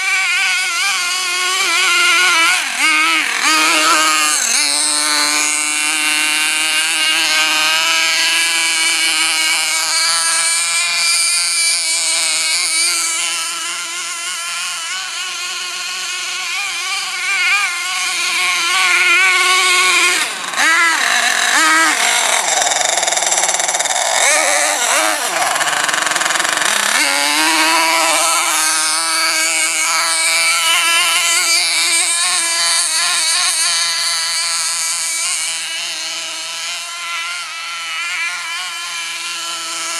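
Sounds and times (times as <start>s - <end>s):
small engine whining at high revs: 0.0s - 39.9s.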